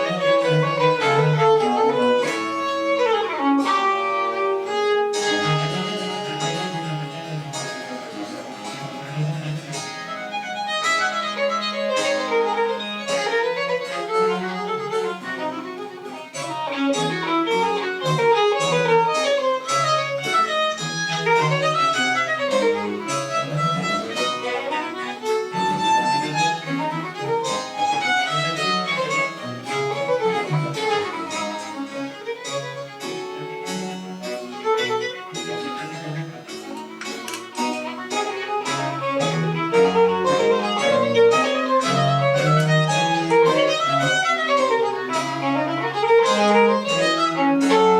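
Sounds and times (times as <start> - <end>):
violin fast running passages: 0.0 - 47.9.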